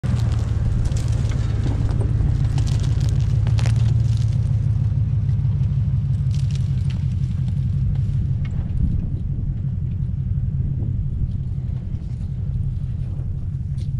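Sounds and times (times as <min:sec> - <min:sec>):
suv engine rumbling: 0:00.0 - 0:13.9
tires crackling over brush: 0:00.0 - 0:13.9.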